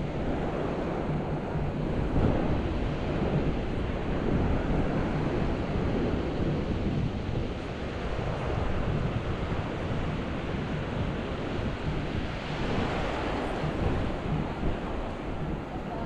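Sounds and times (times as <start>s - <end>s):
ocean waves washing onto beach: 0.0s - 16.0s
wind buffeting microphone: 0.0s - 16.0s.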